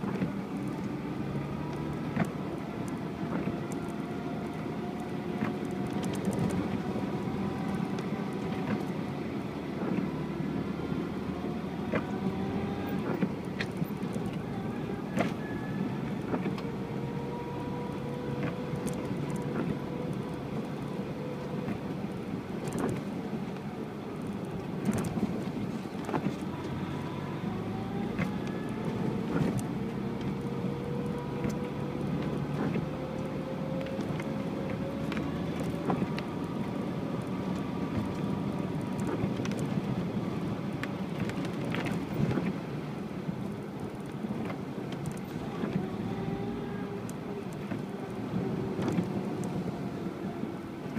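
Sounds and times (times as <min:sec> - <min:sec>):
vehicle engine running under load: 0:00.0 - 0:50.9.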